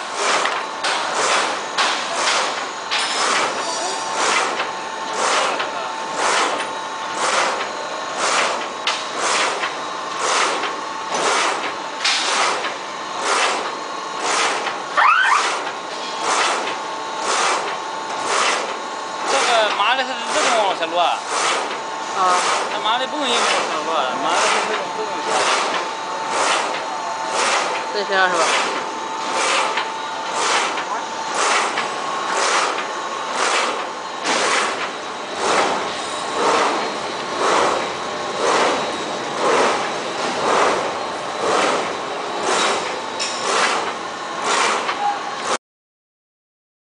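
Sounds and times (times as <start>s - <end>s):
die-cutting machine whoosh: 0.0s - 45.6s.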